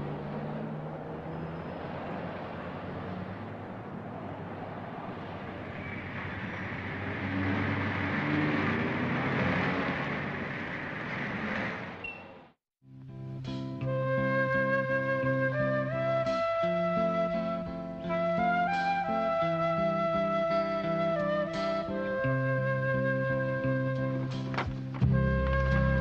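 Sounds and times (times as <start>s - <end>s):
car engines and tyre noise: 0.0s - 12.6s, 15.6s - 26.0s.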